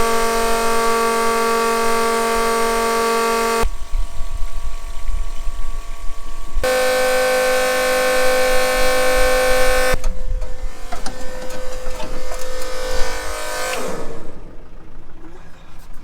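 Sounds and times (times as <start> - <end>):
fuel pump electric whine: 0.0 - 15.5.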